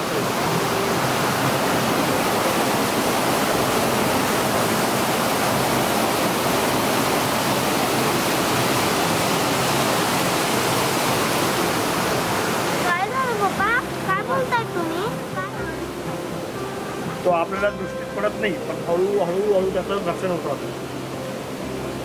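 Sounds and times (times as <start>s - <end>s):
waterfall hissing: 0.0s - 22.0s.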